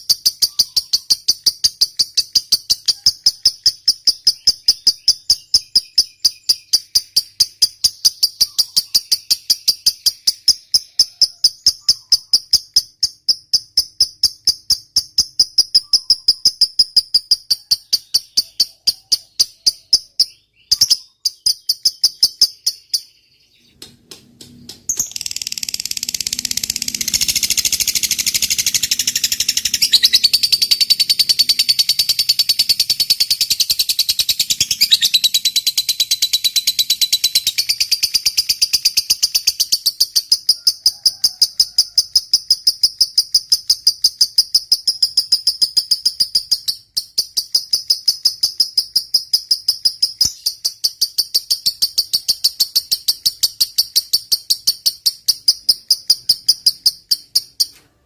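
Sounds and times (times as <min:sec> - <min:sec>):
lovebird chattering trill: 0:00.0 - 0:23.7, 0:24.9 - 0:57.8.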